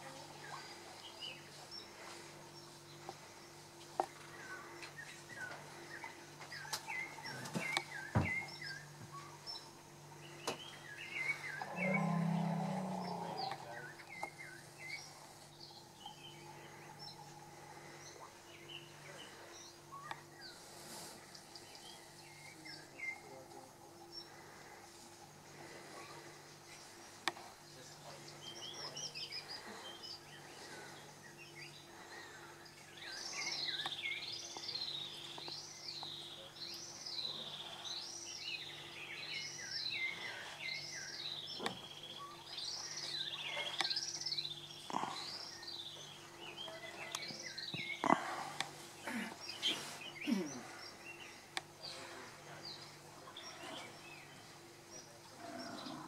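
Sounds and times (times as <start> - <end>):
birds chirping: 0.0 - 56.0
faint low hum: 0.0 - 56.0.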